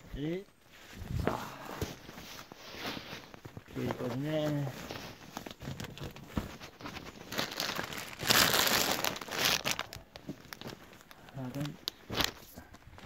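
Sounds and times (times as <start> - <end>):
wrapping paper crumpling: 2.0 - 13.0.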